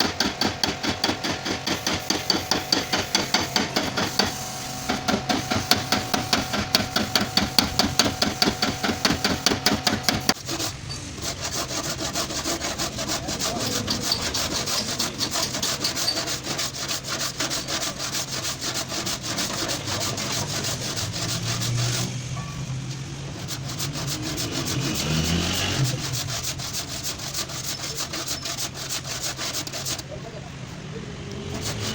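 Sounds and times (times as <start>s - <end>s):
tool scraping metal panel: 0.0s - 31.9s.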